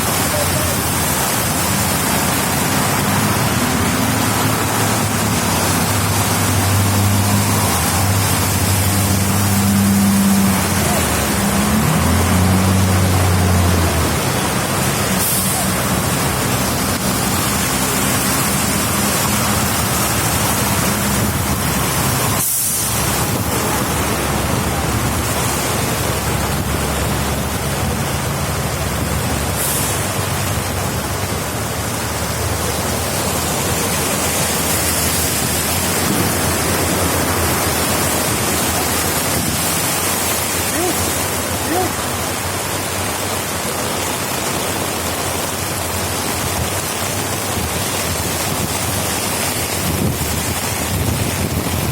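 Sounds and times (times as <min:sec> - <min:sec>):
heavy rain falling: 0:00.0 - 0:51.9
low engine hum: 0:00.0 - 0:51.9.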